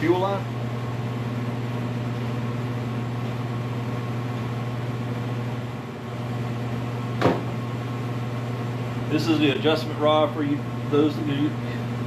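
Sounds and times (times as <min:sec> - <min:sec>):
low electric hum: 0:00.0 - 0:12.0.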